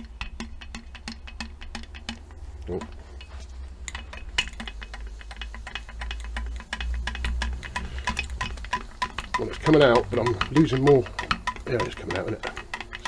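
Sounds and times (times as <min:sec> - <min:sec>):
fluid crackling and spitting: 0:00.0 - 0:13.0.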